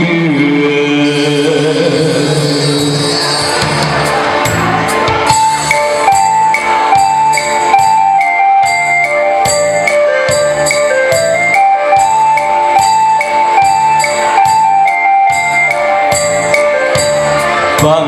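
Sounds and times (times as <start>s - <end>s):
pop song instrumental: 0.0s - 18.0s
jingling percussion: 2.4s - 18.0s.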